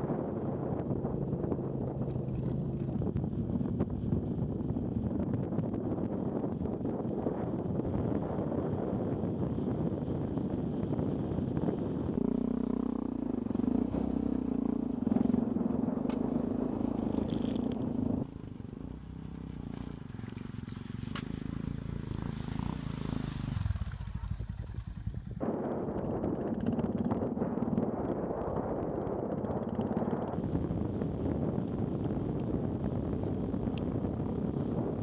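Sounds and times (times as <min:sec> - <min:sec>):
wind noise: 0:00.0 - 0:35.0
motorcycle engine running: 0:00.2 - 0:35.0.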